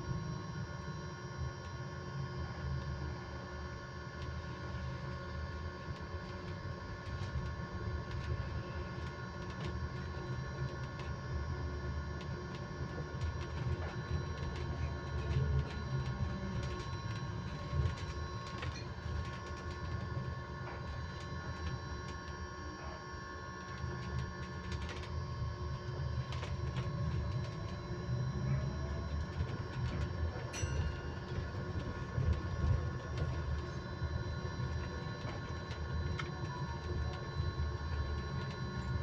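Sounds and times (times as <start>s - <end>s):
electric bus whining tones: 0.0s - 39.0s.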